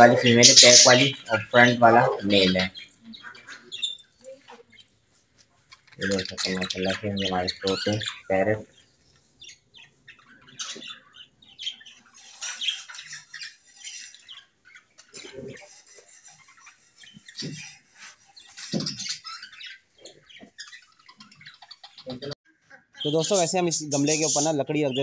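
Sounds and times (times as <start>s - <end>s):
budgerigars chirping: 0.0s - 25.0s.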